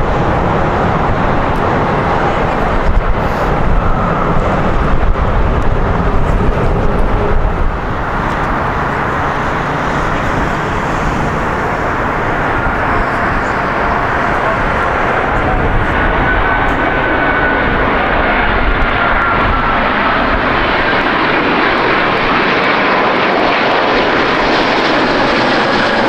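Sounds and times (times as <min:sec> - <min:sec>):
jet airliner engines rumbling: 0:00.0 - 0:26.0.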